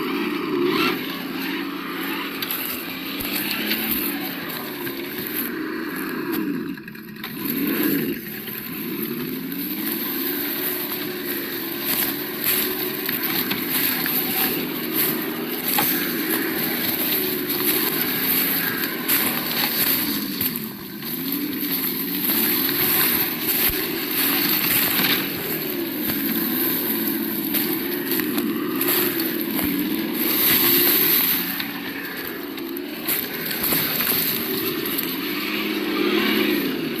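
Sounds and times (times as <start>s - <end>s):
simulated engine sound: 0.0s - 37.0s
clicks and crackles: 6.3s - 37.0s.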